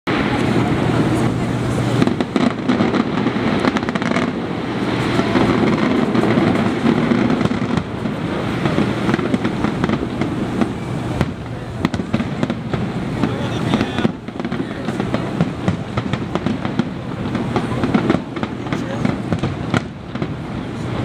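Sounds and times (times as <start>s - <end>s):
continuous rumble: 0.1s - 21.0s
fireworks bursting: 0.1s - 21.0s.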